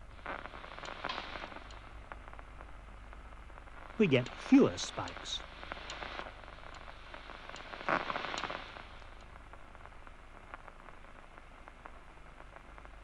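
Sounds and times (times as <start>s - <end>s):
crackling static with clicks: 0.0s - 13.0s
steady low hum: 0.0s - 13.0s.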